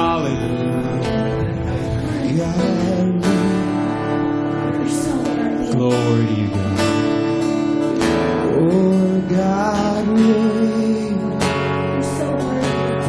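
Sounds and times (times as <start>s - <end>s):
person singing: 0.0s - 13.0s
strummed acoustic guitar: 0.0s - 13.0s.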